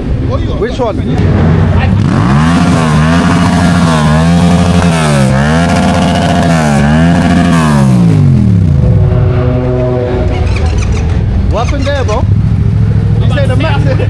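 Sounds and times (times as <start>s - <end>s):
vehicle engine revving: 1.0s - 14.0s.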